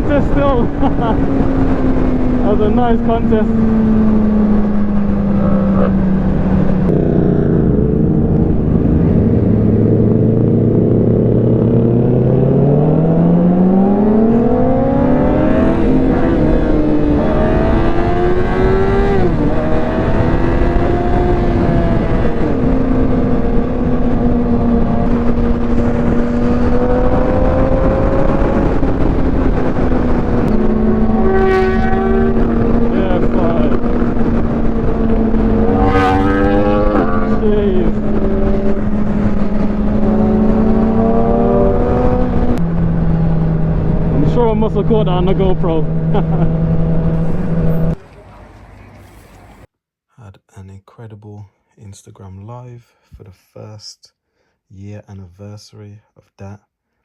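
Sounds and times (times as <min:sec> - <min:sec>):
wind noise on microphone: 0:00.0 - 0:48.0
motorcycle engine accelerating: 0:00.0 - 0:48.3.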